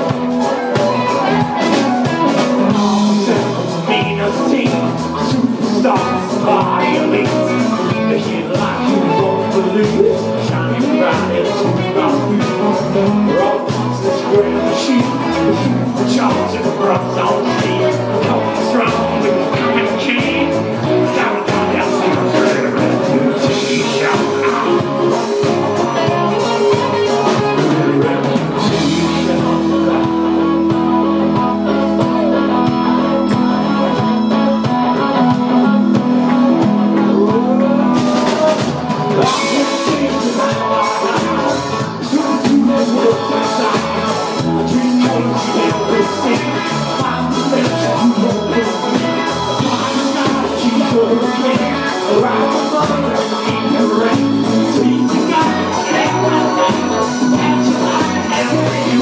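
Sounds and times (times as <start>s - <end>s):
country-rock band playing: 0.0s - 59.0s
drum kit: 0.0s - 59.0s
electric guitars: 0.0s - 59.0s
person singing: 0.0s - 59.0s.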